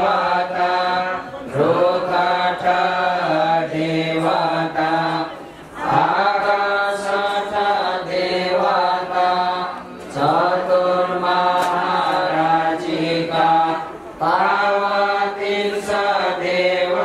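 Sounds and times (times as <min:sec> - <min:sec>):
amplified melodic chanting: 0:00.0 - 0:17.0.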